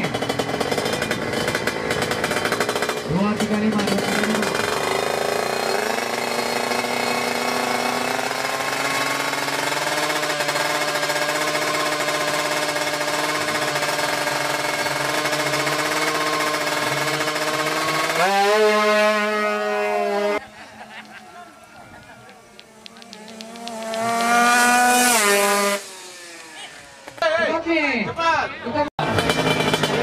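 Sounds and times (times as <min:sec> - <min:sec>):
motorcycle engine revving high: 0:00.0 - 0:27.6, 0:29.0 - 0:30.0.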